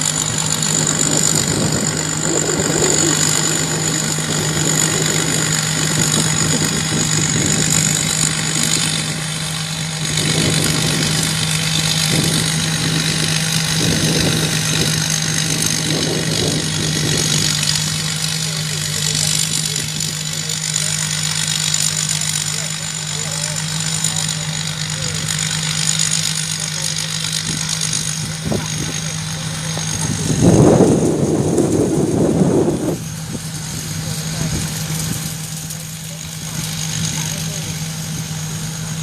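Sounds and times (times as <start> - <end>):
combine harvester engine running: 0.0 - 39.0
high steady whine: 0.0 - 39.0.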